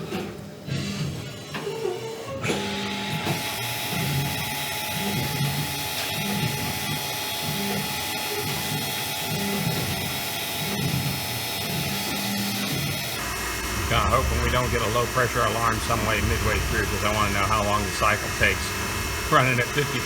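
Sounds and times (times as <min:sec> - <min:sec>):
mill spindle hiss with high whine: 0:02.6 - 0:20.0.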